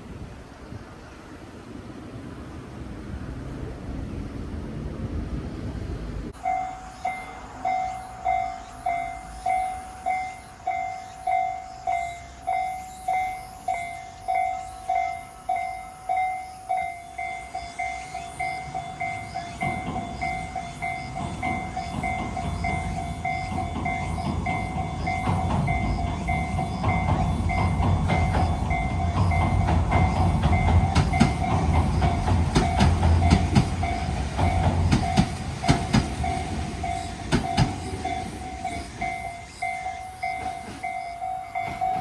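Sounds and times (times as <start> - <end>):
train rumbling past: 0.0 - 42.0
level-crossing bell clanging: 6.4 - 42.0.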